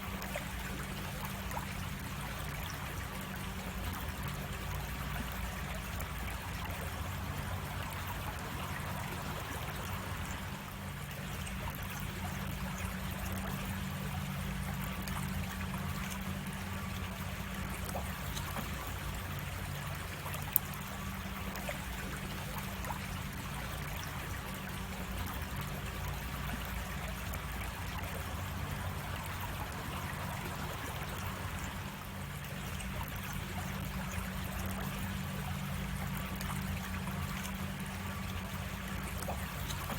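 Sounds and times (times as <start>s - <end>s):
creek water rushing and trickling: 0.0s - 39.9s.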